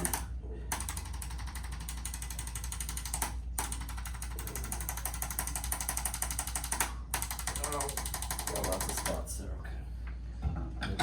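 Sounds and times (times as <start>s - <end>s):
motorized percussion massager rattling: 0.0s - 9.4s.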